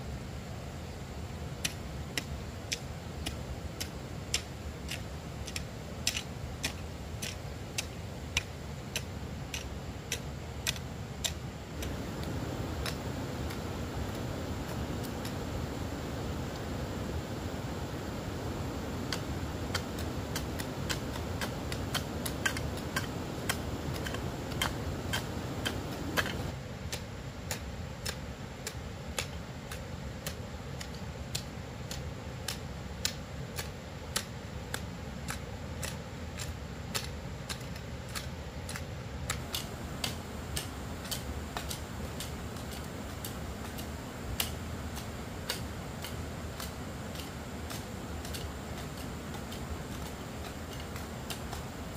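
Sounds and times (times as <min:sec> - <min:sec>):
low background rumble: 0:00.0 - 0:51.9
sharp ticks: 0:01.6 - 0:15.4, 0:19.0 - 0:51.7.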